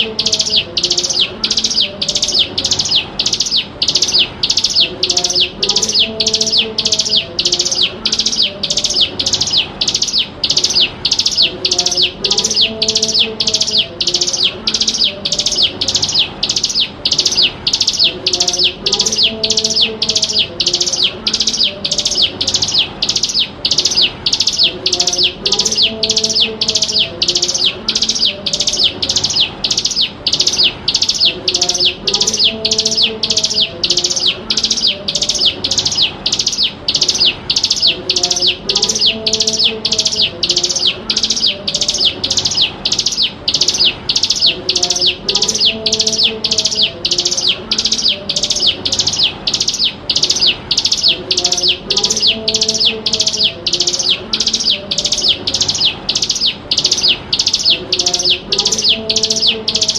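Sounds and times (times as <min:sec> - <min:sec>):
bird calling high and sharp: 0:00.0 - 0:59.9.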